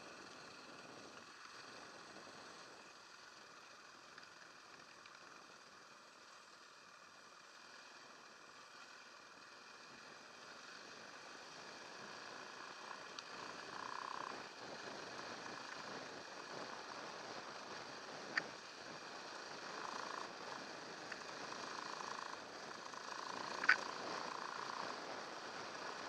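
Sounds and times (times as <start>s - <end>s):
motorcycle engine on dirt trail: 0.0s - 26.0s.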